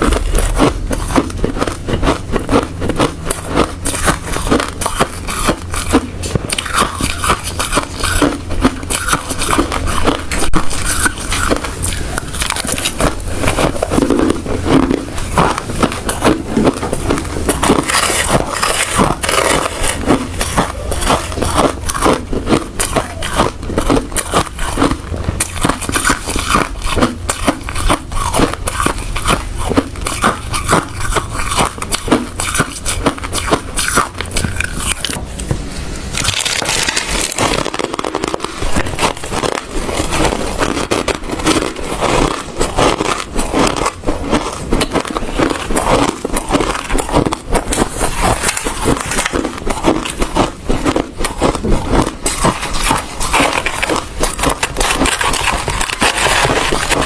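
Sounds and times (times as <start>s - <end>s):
ice being chewed: 0.0s - 35.2s, 36.1s - 57.0s
low background hum: 0.0s - 57.0s.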